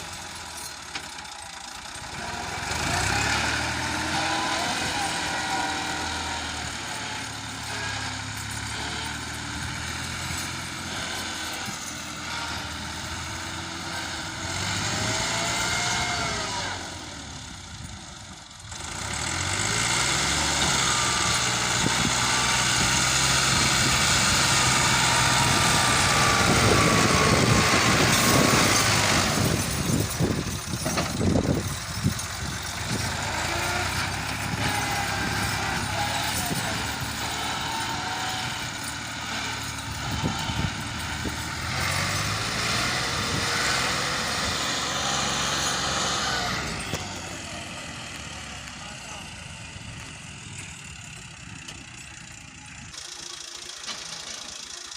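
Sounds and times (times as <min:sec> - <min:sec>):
tractor diesel engine revving: 0:00.0 - 0:54.9.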